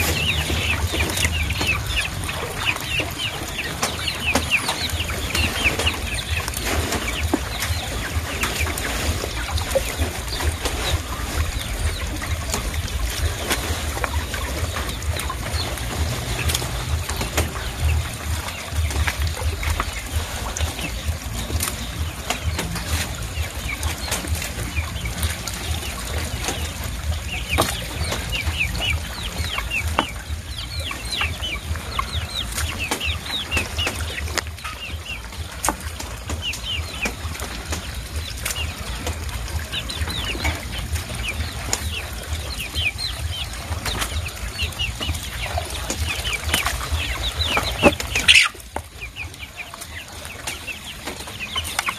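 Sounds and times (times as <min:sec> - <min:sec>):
low rumble: 0:00.0 - 0:49.4
chicken calling: 0:00.0 - 0:51.9
hands sorting wet net: 0:00.0 - 0:51.9
small water splashes: 0:00.0 - 0:51.9.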